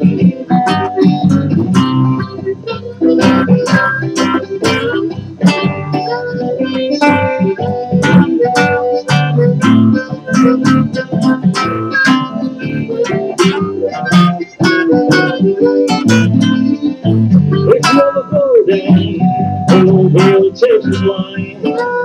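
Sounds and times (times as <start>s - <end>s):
fingerstyle blues guitar: 0.0s - 22.0s.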